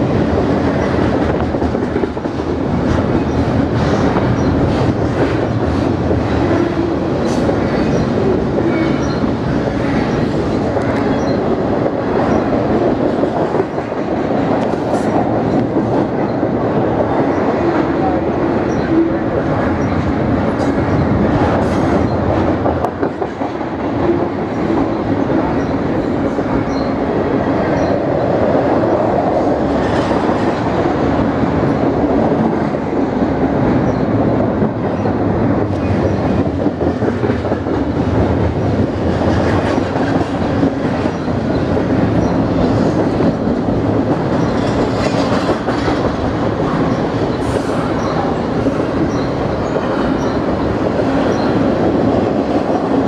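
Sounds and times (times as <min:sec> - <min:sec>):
rail clicks: 0:00.0 - 0:53.0
train wheels rumbling on rail: 0:00.0 - 0:53.0.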